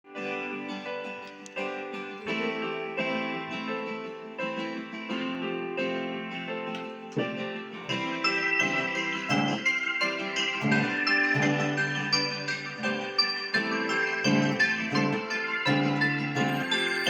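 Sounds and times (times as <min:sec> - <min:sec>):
strummed guitar music: 0:00.1 - 0:17.0.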